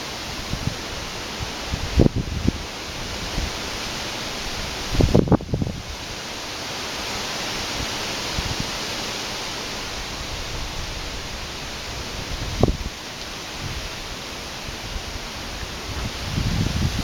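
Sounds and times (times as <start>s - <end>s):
strong wind rushing: 0.0s - 6.2s, 7.6s - 17.0s
wind gusts buffeting microphone: 0.0s - 6.7s, 7.4s - 17.0s.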